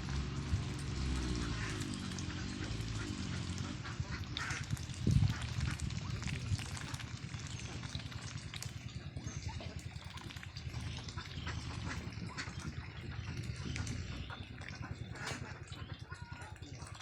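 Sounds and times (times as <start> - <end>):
water sounds: 0.0 - 17.0
ducks chattering and calling: 0.2 - 17.0.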